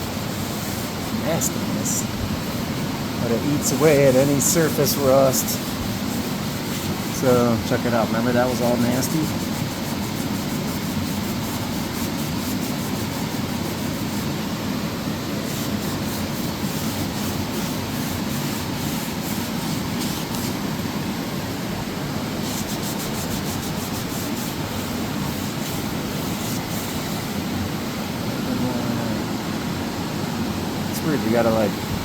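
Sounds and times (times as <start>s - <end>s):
wet rag wiping metal: 0.0s - 21.0s, 22.3s - 27.9s
steady background noise: 0.0s - 32.0s.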